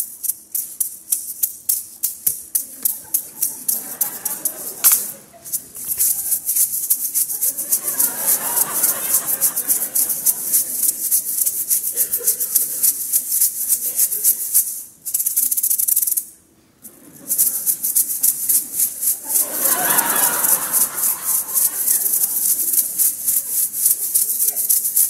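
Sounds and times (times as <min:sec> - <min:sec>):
percussion shakers rattling: 0:00.0 - 0:25.0.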